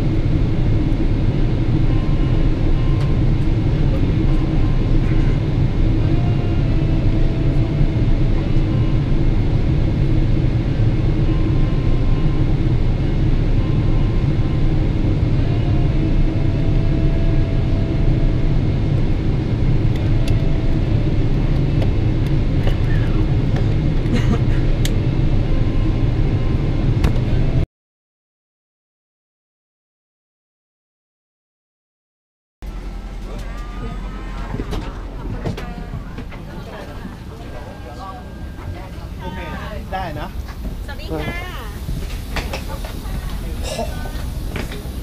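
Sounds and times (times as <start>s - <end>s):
aircraft cabin rumble: 0.0s - 27.6s, 32.6s - 45.0s
faint engine whine: 0.0s - 27.6s, 32.6s - 45.0s.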